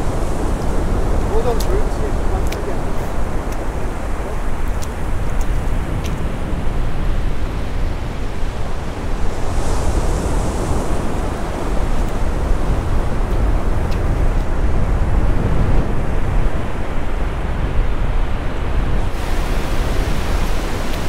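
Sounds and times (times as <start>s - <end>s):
surf washing onto beach: 0.0s - 21.0s
wind buffeting microphone: 0.0s - 21.0s.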